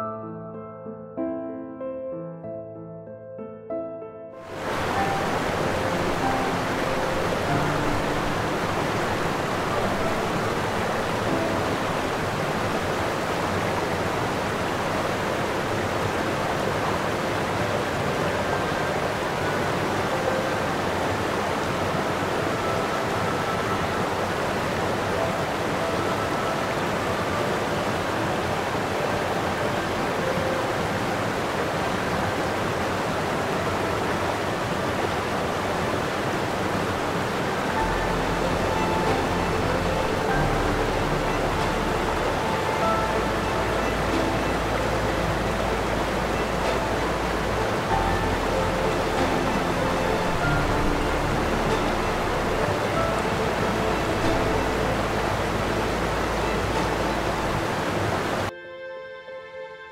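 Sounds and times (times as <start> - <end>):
running water rushing: 4.4 - 58.5.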